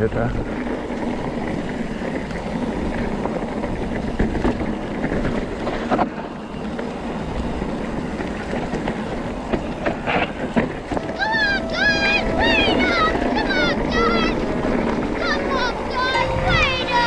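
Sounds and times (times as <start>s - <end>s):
bike rattling over bumps: 0.0s - 17.0s
bike tyres rumbling on dirt: 0.0s - 17.0s
wind on microphone: 0.0s - 17.0s.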